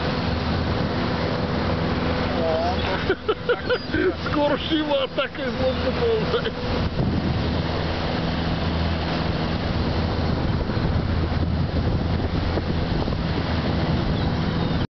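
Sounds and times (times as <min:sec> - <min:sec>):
wind on microphone: 0:00.0 - 0:04.5, 0:05.5 - 0:14.9
boat engine running: 0:00.0 - 0:14.9
rushing water: 0:00.0 - 0:14.9.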